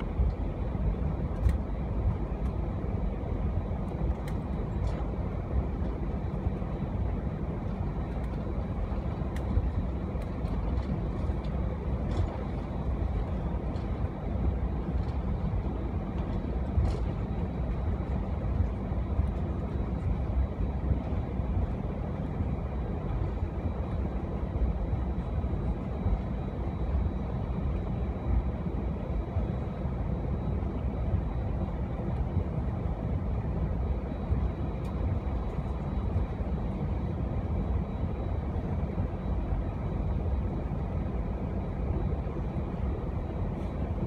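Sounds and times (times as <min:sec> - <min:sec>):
aircraft engines idling rumble: 0:00.0 - 0:44.0.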